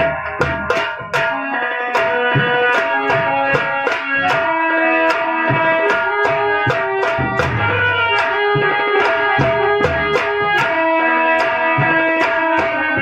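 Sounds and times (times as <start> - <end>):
kettle drum struck with sticks: 0.0 - 1.4, 2.0 - 13.0
hand drum: 0.0 - 13.0
harmonium melody: 0.0 - 13.0.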